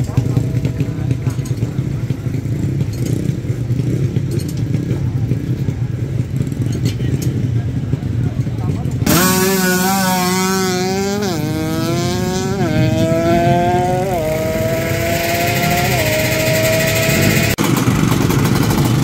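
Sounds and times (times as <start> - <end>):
motorcycle accelerating hard: 0.0 - 19.0.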